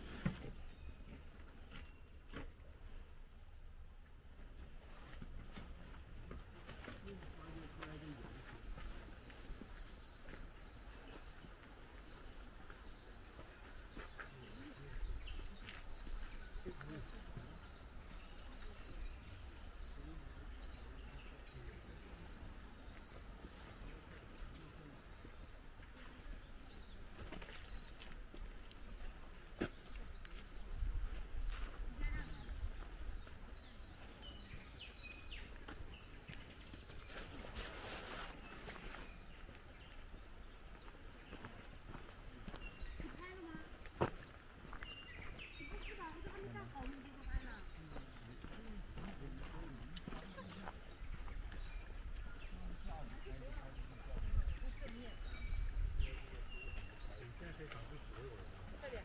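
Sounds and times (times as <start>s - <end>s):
small birds chirping: 0.0s - 59.0s
footsteps on leafy gravel path: 4.6s - 19.6s, 22.4s - 59.0s.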